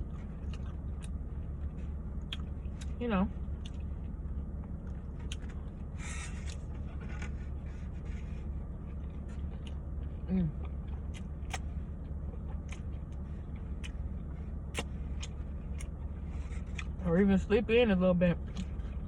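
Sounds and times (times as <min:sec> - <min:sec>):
chewing with mouth clicks: 0:00.0 - 0:17.0
steady low hum: 0:00.0 - 0:19.0.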